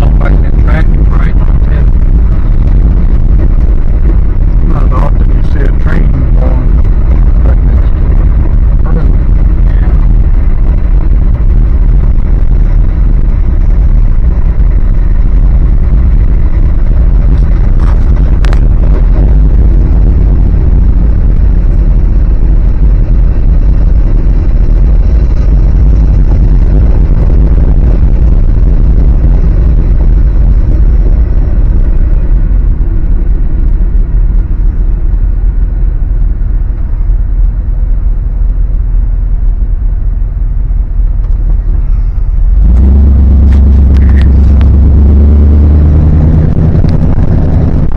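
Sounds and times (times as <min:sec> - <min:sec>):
truck engine and road rumble: 0:00.0 - 0:47.9.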